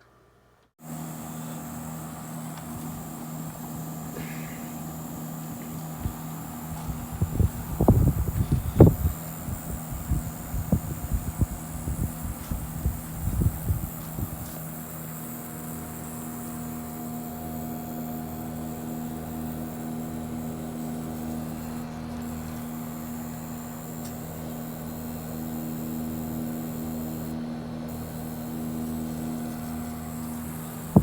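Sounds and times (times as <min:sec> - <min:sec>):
air conditioner humming: 0:00.0 - 0:31.0.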